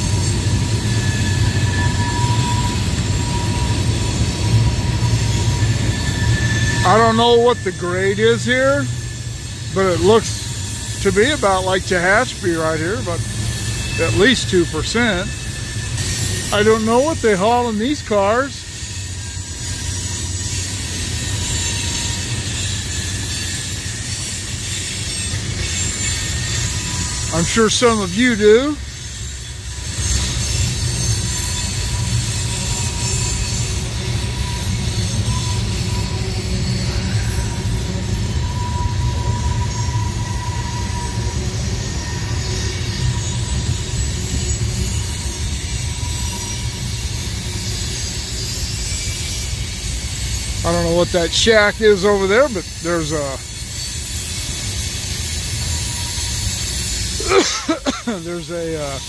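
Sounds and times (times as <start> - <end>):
freight train rumbling past: 0.0 - 59.0
thin high wheel squeal: 0.0 - 59.0
steady hiss: 5.6 - 59.0.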